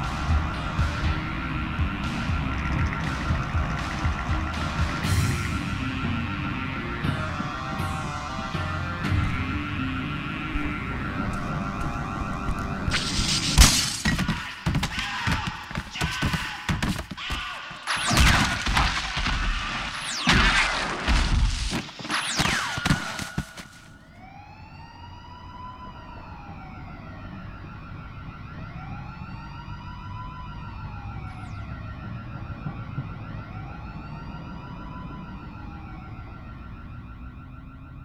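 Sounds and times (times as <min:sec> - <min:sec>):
siren wailing: 0:00.0 - 0:38.0.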